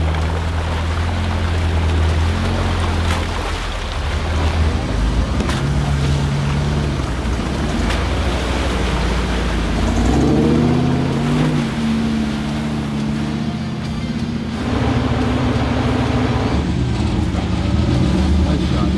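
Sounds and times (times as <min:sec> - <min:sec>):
churning mud and water: 0:00.0 - 0:18.9
truck engine revving: 0:00.0 - 0:18.9.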